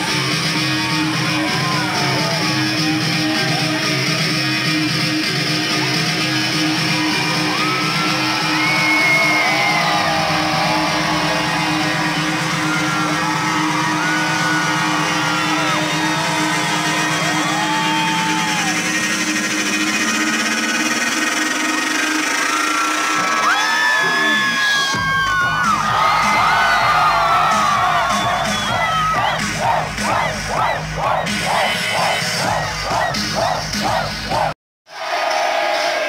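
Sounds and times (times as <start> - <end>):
loud electronic dance music: 0.0 - 36.0.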